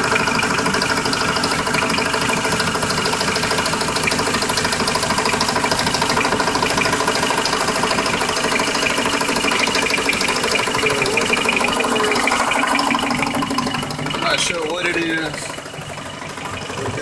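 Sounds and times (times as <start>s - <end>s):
car engine idling: 0.0s - 17.0s
fast steady engine ticking: 0.0s - 17.0s.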